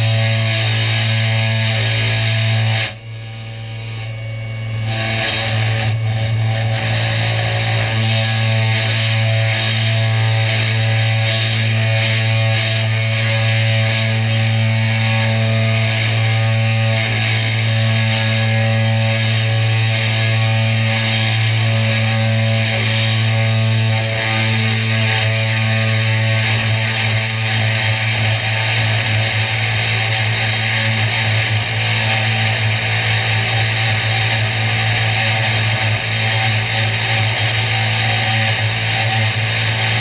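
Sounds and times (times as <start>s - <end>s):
router spindle motor humming: 0.0s - 40.0s.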